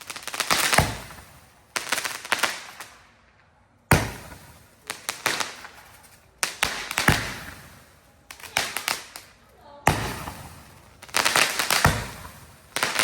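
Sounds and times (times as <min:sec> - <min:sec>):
fireworks bangs and crackles: 0:00.0 - 0:03.3, 0:03.9 - 0:13.0.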